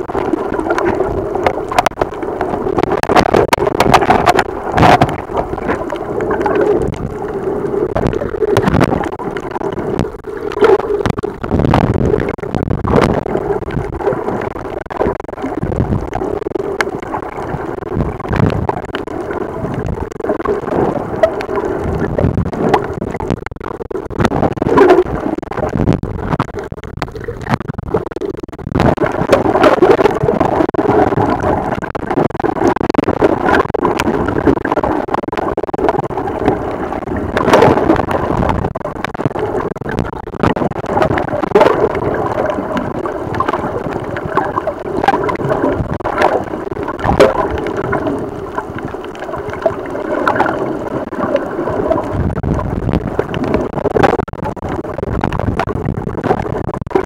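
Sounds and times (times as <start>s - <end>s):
underwater churning water and bubbles: 0.0s - 57.0s
underwater clicks and crackles: 0.0s - 57.0s.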